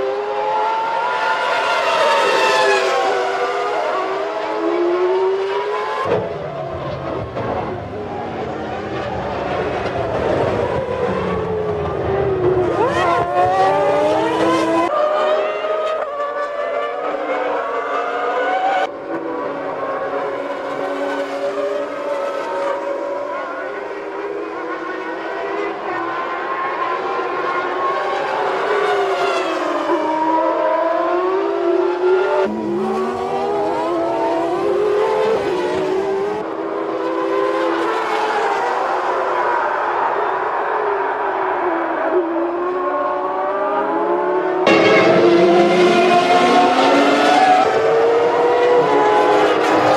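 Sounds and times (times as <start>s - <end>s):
racing car engines at high revs: 0.0s - 49.9s.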